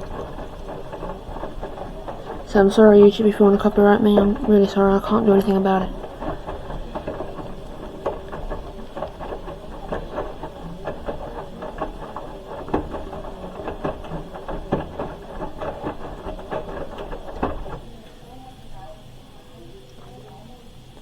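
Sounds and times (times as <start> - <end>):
clicking and knocking: 0.0 - 18.2
washing machine drum humming: 0.0 - 21.0.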